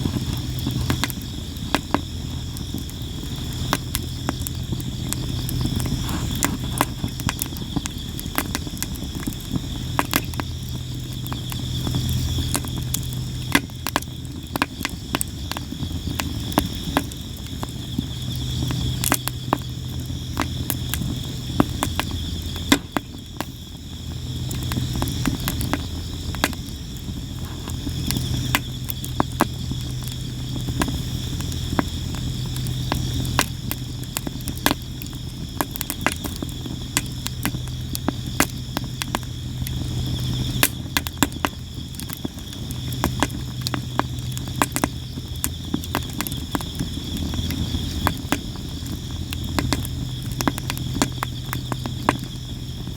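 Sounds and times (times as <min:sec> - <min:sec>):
campfire crackling and popping: 0:00.0 - 0:52.9
crickets chirping: 0:00.0 - 0:52.9.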